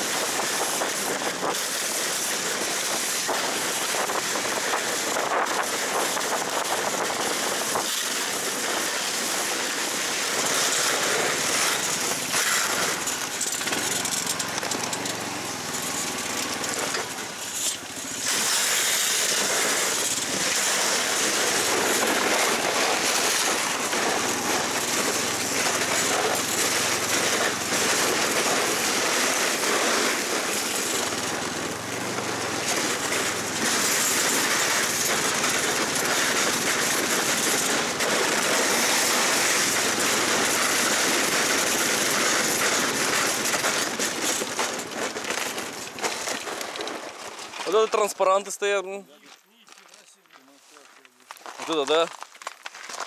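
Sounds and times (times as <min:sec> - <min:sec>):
rush of wind: 0:00.0 - 0:47.2
snow tow engine and tracks: 0:00.0 - 0:51.0.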